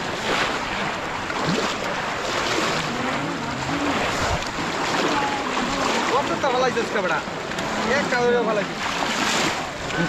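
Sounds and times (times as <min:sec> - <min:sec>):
water splashing and churning: 0:00.0 - 0:10.0.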